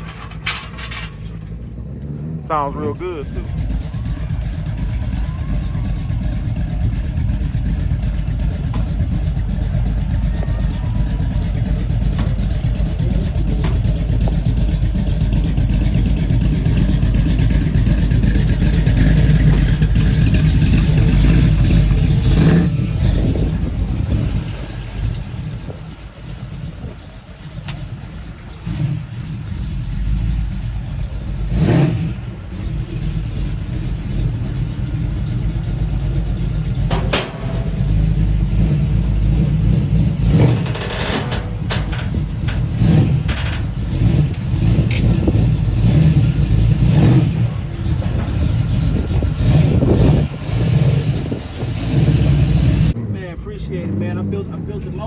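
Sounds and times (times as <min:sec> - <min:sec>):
car engine rumbling and revving: 0:00.0 - 0:55.0.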